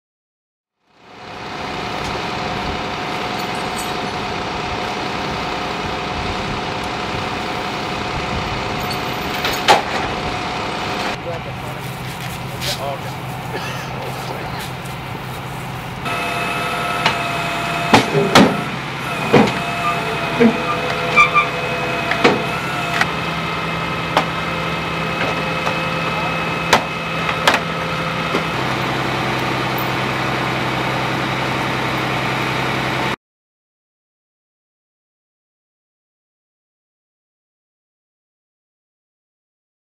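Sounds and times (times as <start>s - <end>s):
truck engine drone: 0.8s - 33.2s
winch whine: 1.0s - 33.2s.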